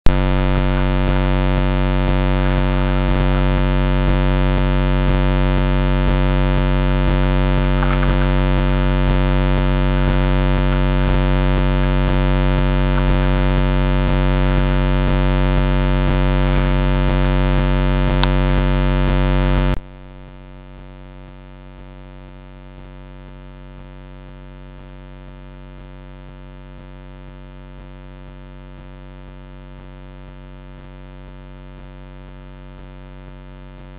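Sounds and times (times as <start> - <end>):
electrical hum: 0.0 - 33.9.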